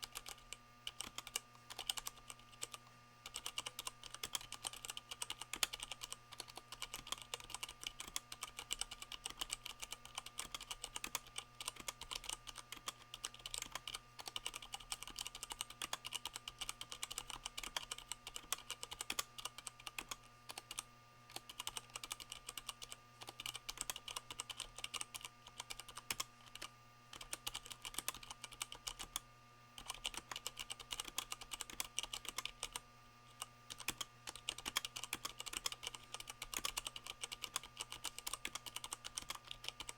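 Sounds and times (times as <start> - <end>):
mechanical keyboard typing: 0.0 - 29.2, 29.8 - 39.9.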